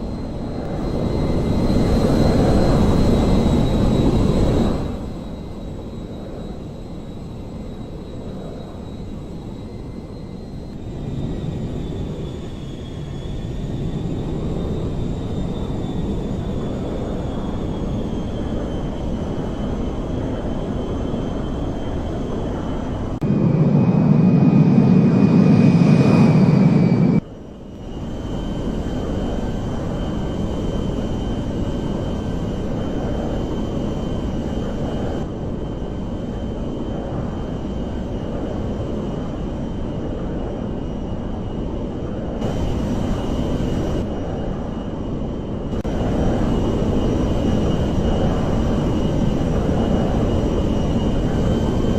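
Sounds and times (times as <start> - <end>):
jet engines rumbling and whining: 0.0 - 51.9.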